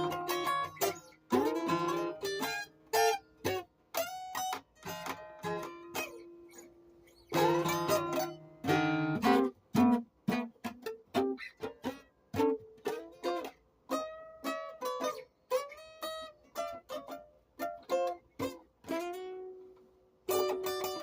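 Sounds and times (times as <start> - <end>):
plucked string instrument notes: 0.0 - 21.0.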